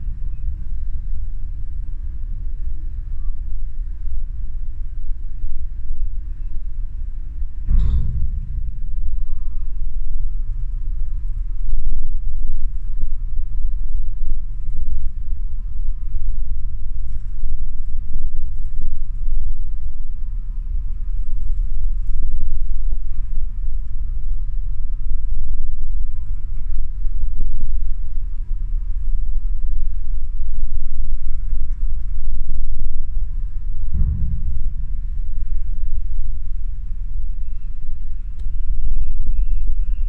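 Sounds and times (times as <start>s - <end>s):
faint machinery tones: 0.0s - 40.0s
ship engines low rumble: 0.0s - 40.0s.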